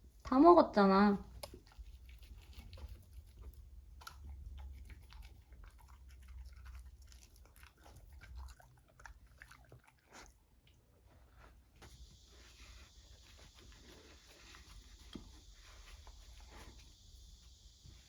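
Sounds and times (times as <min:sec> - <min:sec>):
dog chewing and licking food: 0:01.2 - 0:17.7.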